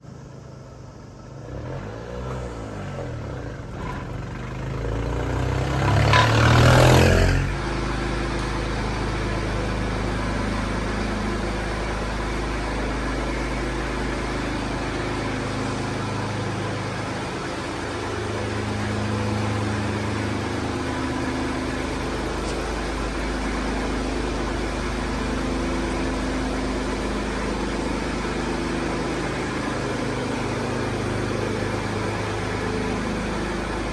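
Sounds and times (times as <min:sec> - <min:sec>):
small truck engine starting and idling: 0:00.0 - 0:33.9.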